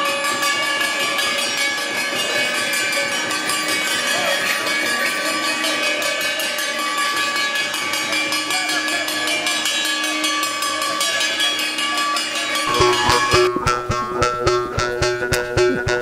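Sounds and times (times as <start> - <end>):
metal bells jingling: 0.0 - 16.0.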